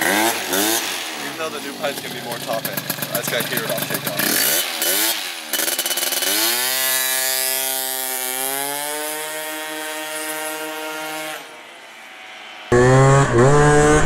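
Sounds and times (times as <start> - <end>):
scooter two-stroke engine revving: 0.0 - 14.0.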